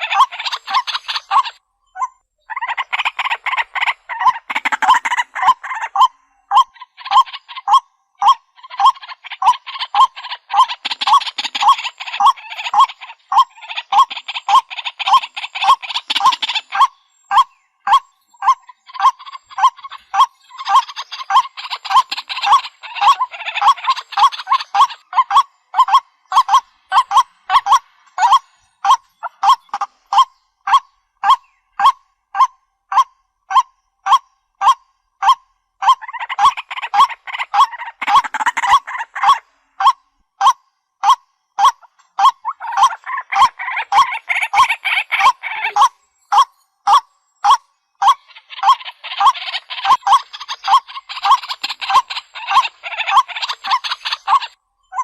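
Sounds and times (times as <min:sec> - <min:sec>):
waterhen croaking calls: 0:00.0 - 0:55.0.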